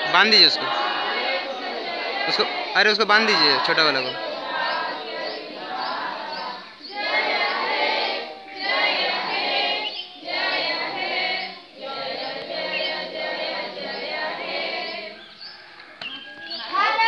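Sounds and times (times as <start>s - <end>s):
group of voices singing in unison: 0.0s - 16.8s.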